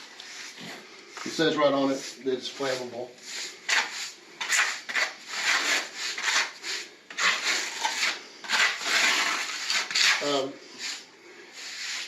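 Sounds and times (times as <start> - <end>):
scrubbing on tile floor: 0.2 - 12.0.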